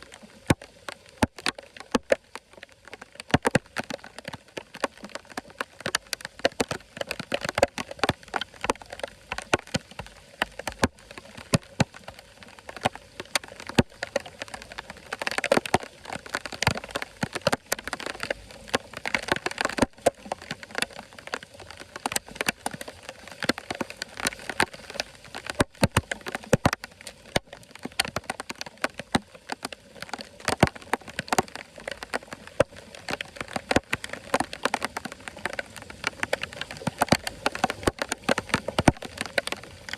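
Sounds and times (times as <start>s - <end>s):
water tapping and splashing: 0.0s - 39.9s.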